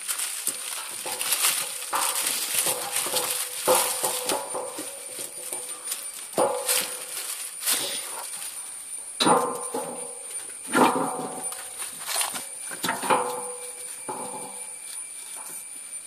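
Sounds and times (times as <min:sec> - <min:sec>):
aluminium foil crinkling: 0:00.0 - 0:16.0.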